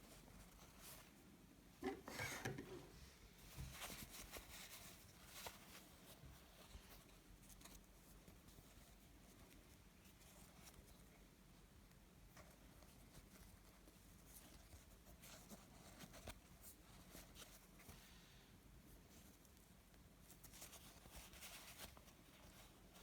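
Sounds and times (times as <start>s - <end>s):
soft rustling and tapping: 1.8s - 18.1s, 18.9s - 23.0s.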